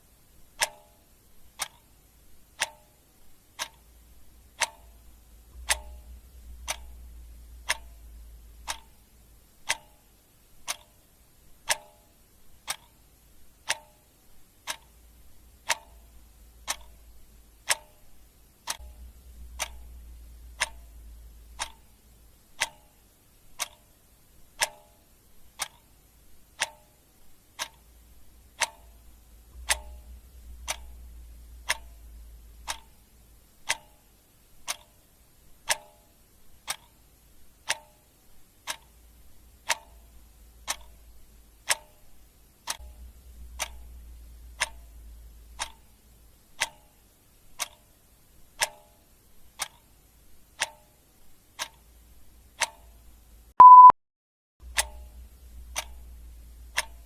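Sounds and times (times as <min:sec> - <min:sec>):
clock ticking: 0:00.4 - 0:53.9, 0:54.6 - 0:57.0.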